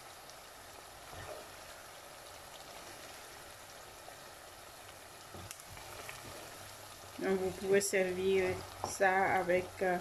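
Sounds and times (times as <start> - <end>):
sauce sizzling and bubbling in pan: 0.0 - 10.0.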